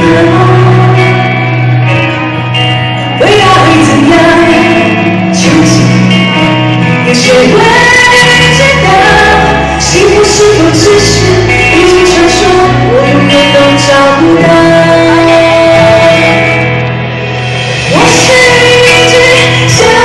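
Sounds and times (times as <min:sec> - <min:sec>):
woman singing: 0:00.0 - 0:01.8, 0:03.1 - 0:16.8, 0:17.8 - 0:20.0
live pop band music: 0:00.0 - 0:20.0.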